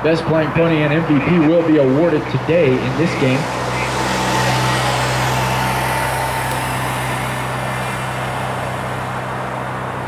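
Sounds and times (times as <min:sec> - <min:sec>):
rushing background noise: 0:00.0 - 0:10.0
low hum: 0:01.2 - 0:10.0.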